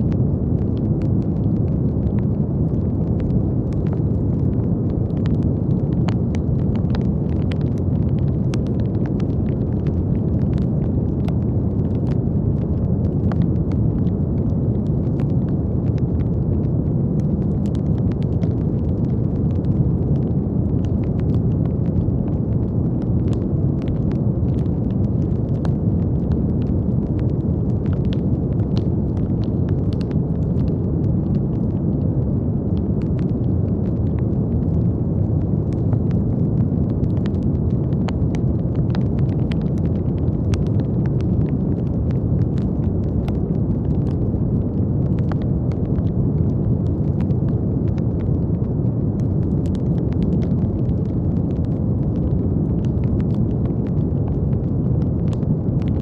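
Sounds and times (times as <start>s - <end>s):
brown noise rumbling hiss: 0.0s - 56.0s
faint crackles: 0.0s - 56.0s.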